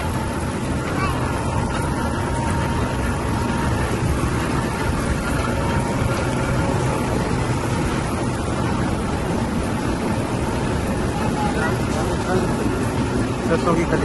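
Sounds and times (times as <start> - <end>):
oil expellers running: 0.0 - 14.0.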